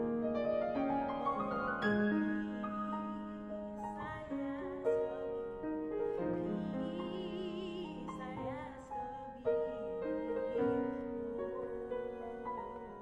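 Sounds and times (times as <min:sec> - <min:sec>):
grand piano playing slow chords: 0:00.0 - 0:13.0
person singing with vibrato: 0:01.2 - 0:13.0.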